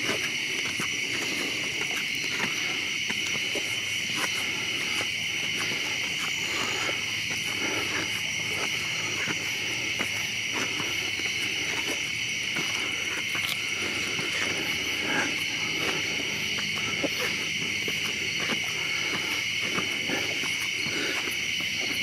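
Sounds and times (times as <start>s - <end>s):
crickets trilling: 0.0s - 22.0s
footsteps on stone steps: 0.0s - 22.0s.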